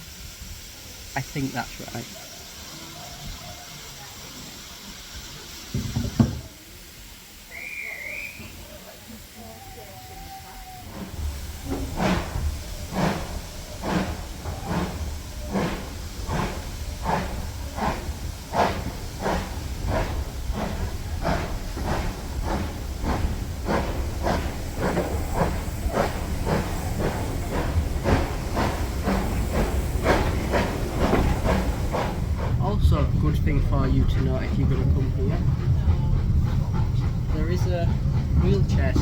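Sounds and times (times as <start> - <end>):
steam locomotive exhaust chuffs: 0.0 - 39.0.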